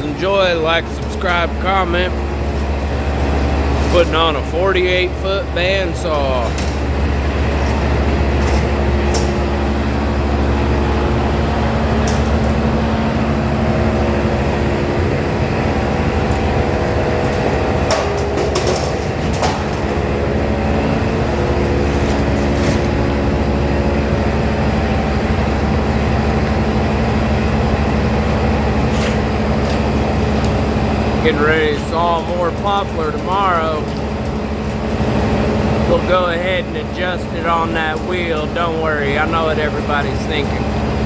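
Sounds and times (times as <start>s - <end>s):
sawmill machinery humming: 0.0s - 41.0s.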